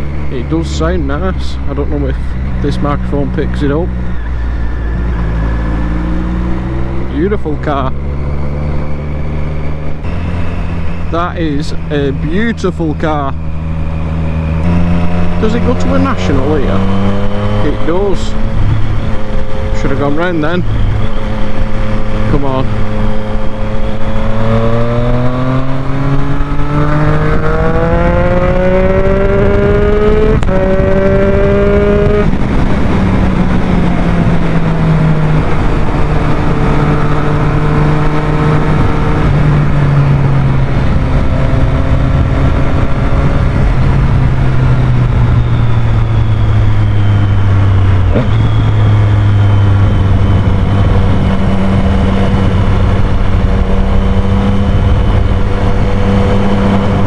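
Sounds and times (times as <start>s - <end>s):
motorcycle engine accelerating: 0.0s - 57.0s
rushing wind noise: 0.0s - 57.0s.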